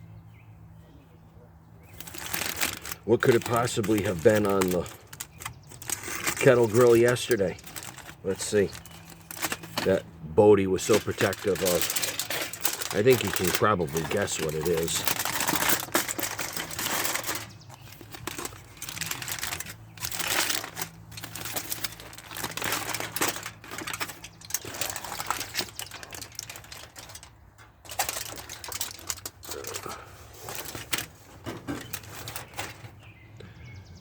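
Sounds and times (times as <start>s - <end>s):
wrapping crinkling and rustling: 1.9s - 33.1s.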